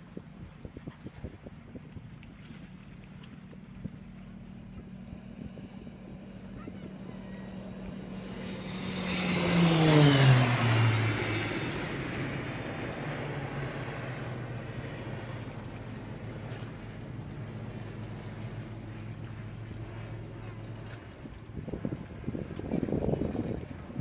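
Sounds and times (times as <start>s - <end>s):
aircraft passing low overhead: 0.0s - 24.0s.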